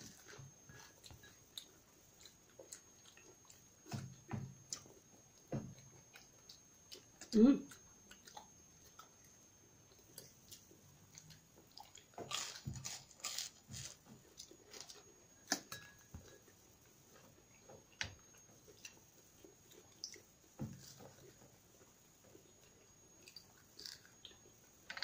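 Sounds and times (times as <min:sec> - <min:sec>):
people chewing food: 0:00.0 - 0:25.0.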